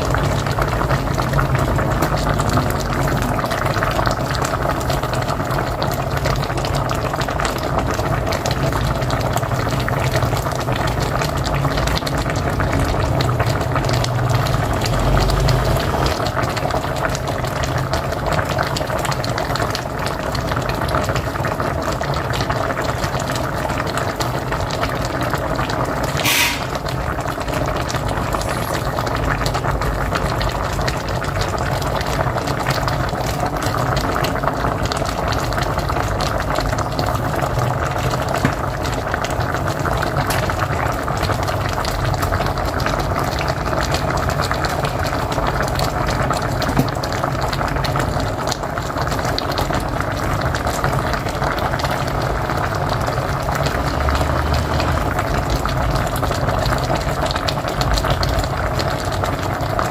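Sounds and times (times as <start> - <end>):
pot boiling with small pops: 0.0 - 59.9.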